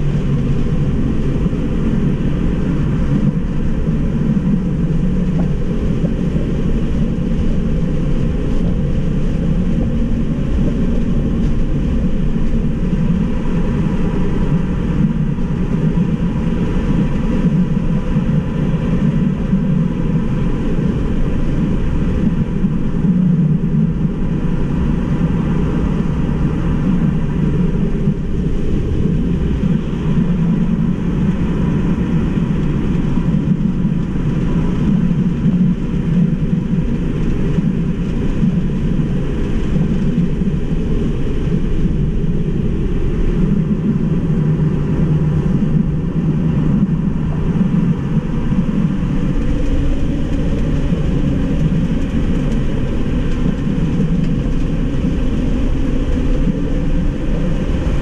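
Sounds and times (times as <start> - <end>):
faint steady whine: 0.0 - 58.0
road and wind rumble in car cabin: 0.0 - 58.0.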